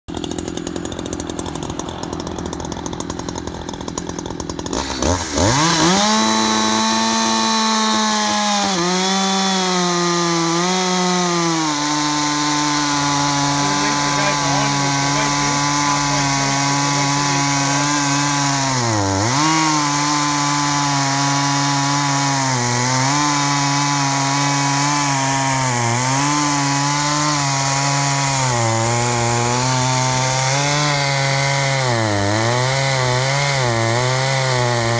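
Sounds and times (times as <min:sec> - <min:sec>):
chainsaw cutting log: 0:00.1 - 0:34.9.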